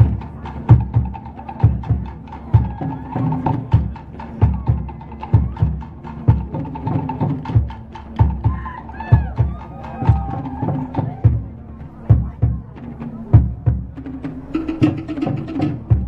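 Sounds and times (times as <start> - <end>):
deep drum beat: 0.0 - 16.0.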